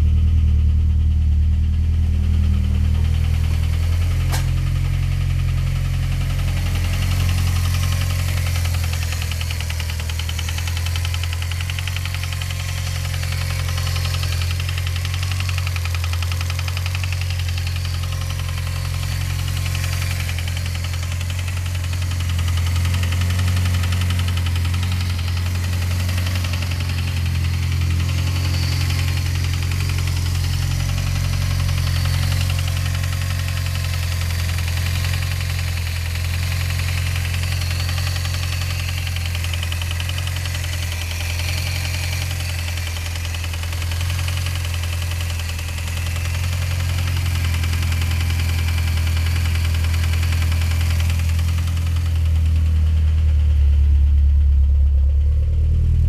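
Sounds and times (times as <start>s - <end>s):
car engine idling with ticking: 0.0s - 56.0s.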